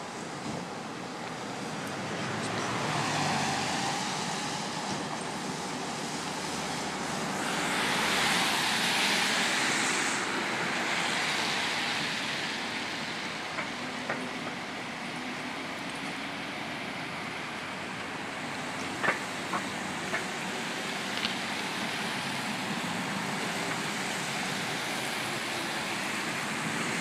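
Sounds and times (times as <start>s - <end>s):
tyre hiss on wet road: 0.0s - 27.0s.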